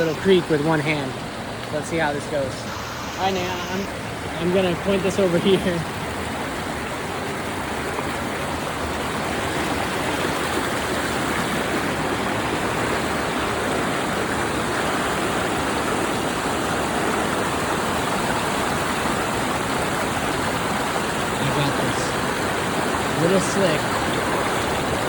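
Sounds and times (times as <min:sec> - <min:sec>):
small waterfall rushing: 0:00.0 - 0:25.0.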